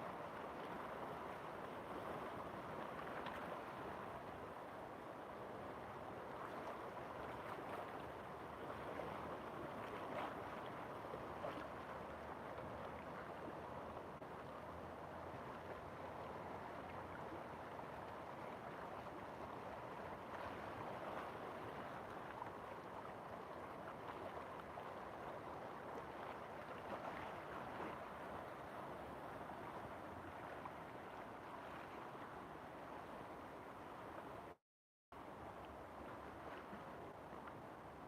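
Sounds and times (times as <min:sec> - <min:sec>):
river water flowing: 0:00.0 - 0:34.6, 0:35.2 - 0:38.0.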